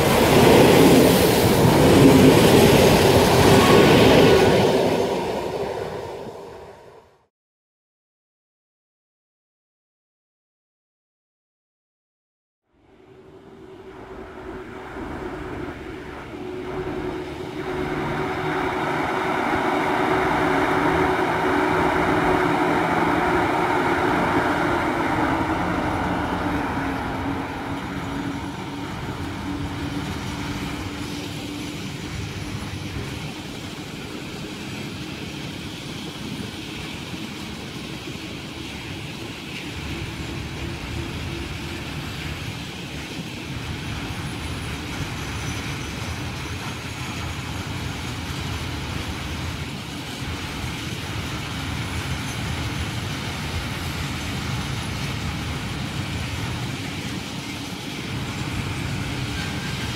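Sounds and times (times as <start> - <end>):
train wheels rumbling on rails: 0.0 - 7.0, 13.0 - 59.9
electric locomotive hum: 0.0 - 7.3, 12.7 - 59.9.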